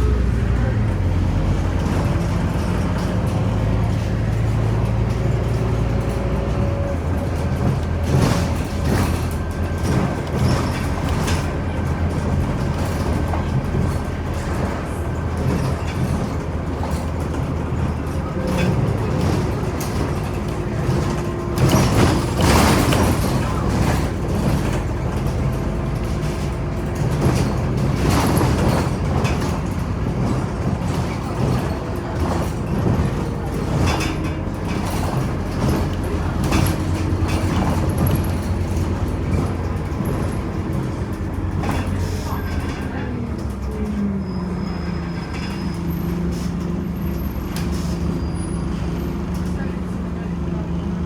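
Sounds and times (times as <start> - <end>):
bus engine rumble: 0.0 - 51.0.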